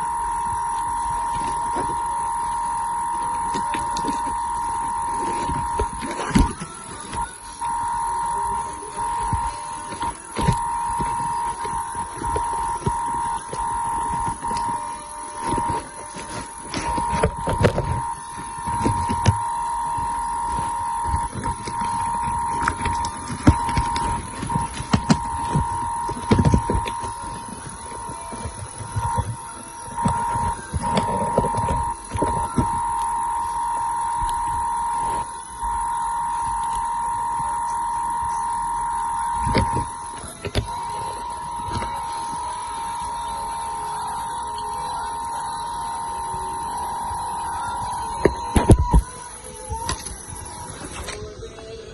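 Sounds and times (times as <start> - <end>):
high-pitched whine: 0.0 - 51.9.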